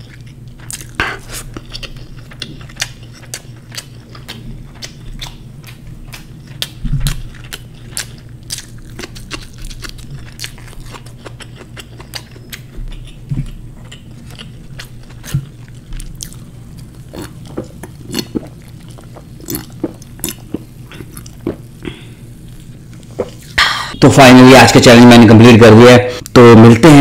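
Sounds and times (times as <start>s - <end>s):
close chewing with mouth clicks: 0.0s - 23.6s.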